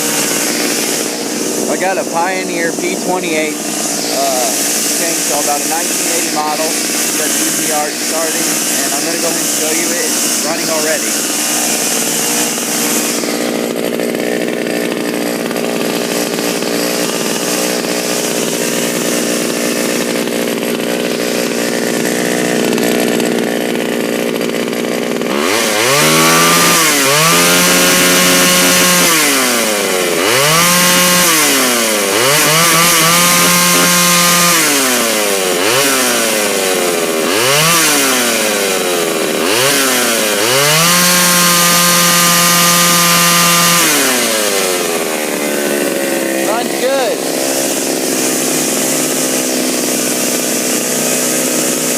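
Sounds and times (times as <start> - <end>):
chainsaw engine idling and revving: 0.0 - 51.9.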